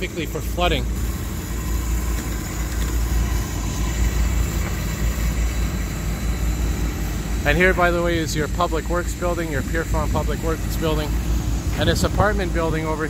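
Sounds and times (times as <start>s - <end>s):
pump engines rumbling: 0.0s - 13.0s.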